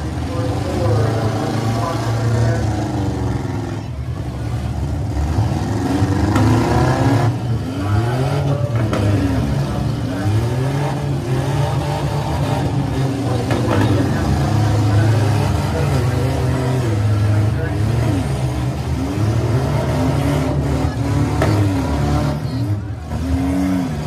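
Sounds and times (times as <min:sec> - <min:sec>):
car engines revving: 0:00.0 - 0:24.0
low engine rumble: 0:00.0 - 0:24.0.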